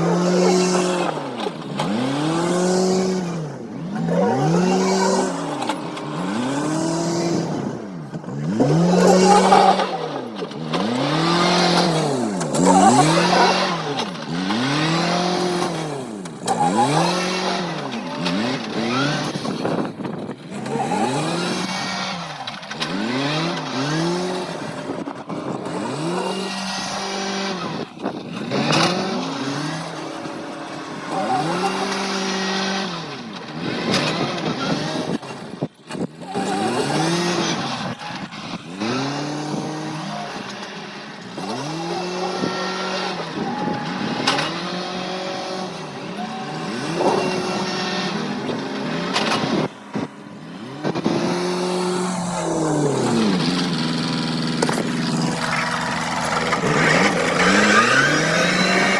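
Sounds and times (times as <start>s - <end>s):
farm machine engine revving: 0.0s - 58.9s.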